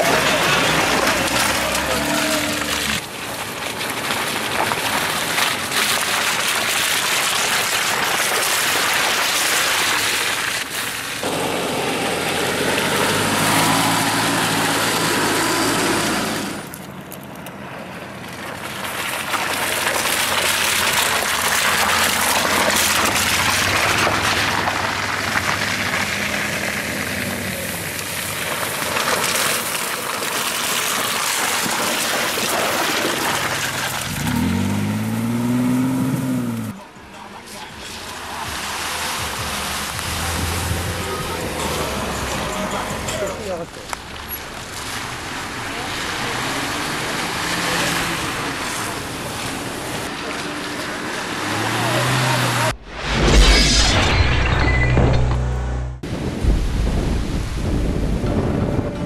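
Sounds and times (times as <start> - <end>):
tyres on gravel: 0.0 - 53.5
suv engines labouring: 0.0 - 56.6
wind: 0.0 - 59.0.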